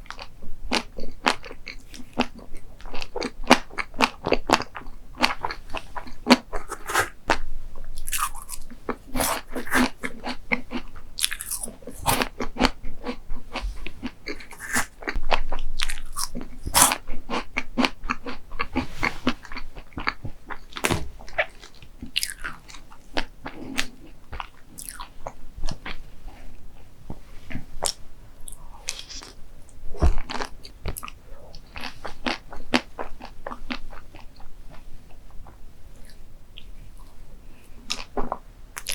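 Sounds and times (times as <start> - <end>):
person chewing crunchy food: 0.0 - 26.0, 27.5 - 36.7, 37.9 - 38.9.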